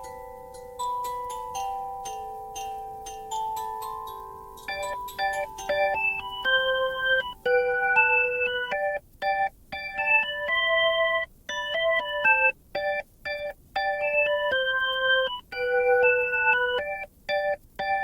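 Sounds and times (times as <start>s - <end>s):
electronic keyboard playing chords: 0.0s - 18.0s.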